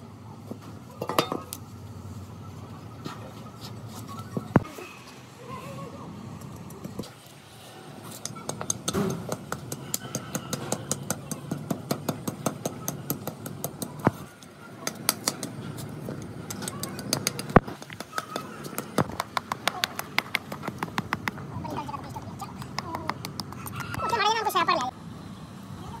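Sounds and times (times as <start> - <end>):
workshop background noise: 0.0 - 25.0.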